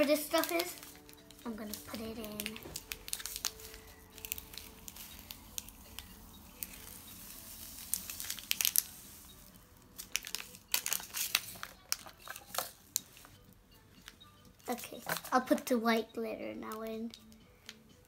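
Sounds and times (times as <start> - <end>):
plastic sachet crinkling: 0.0 - 13.4, 14.0 - 15.8.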